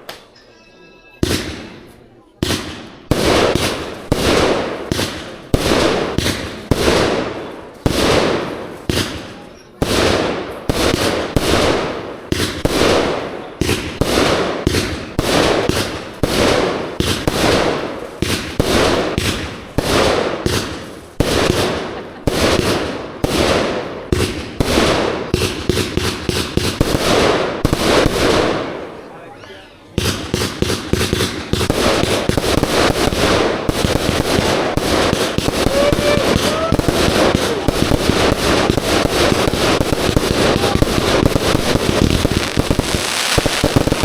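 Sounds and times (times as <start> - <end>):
fireworks bangs with echo: 1.2 - 29.2, 29.9 - 44.0
rapid fireworks pops: 2.4 - 28.8, 30.0 - 44.0.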